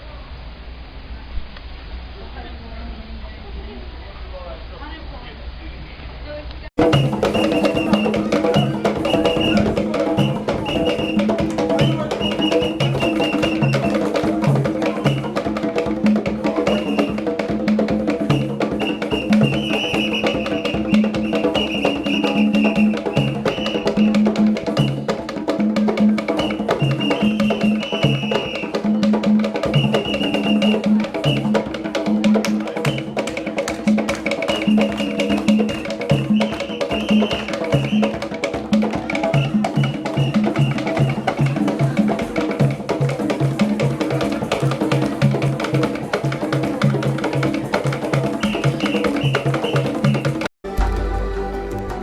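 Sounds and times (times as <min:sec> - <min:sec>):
loud music with percussion beat: 0:06.8 - 0:52.0.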